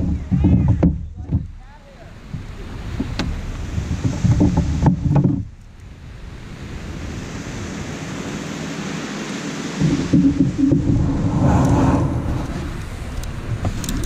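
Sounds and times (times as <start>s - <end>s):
wind on microphone: 0.0s - 1.6s, 2.2s - 14.0s
surf washing on beach: 0.0s - 14.0s.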